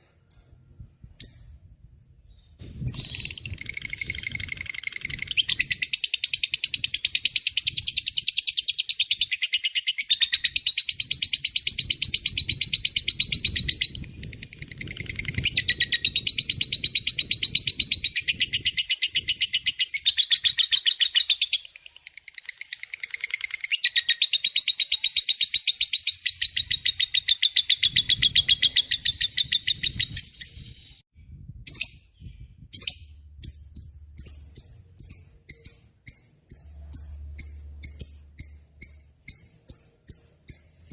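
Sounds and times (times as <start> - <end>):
sharp bird chirps: 0.0 - 31.0, 31.7 - 40.9.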